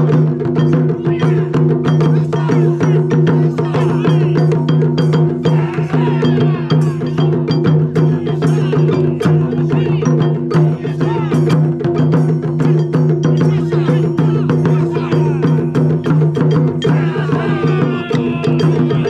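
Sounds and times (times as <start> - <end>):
drum ensemble playing: 0.0 - 19.0.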